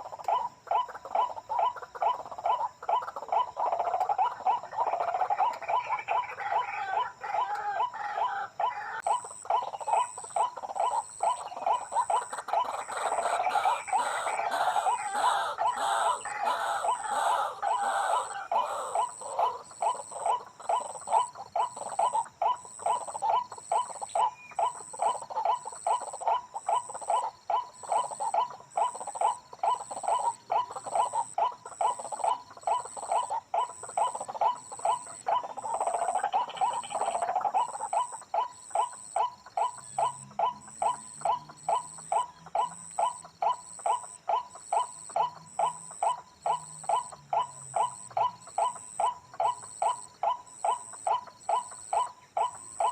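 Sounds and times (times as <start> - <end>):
waterhen calling: 0.0 - 52.9.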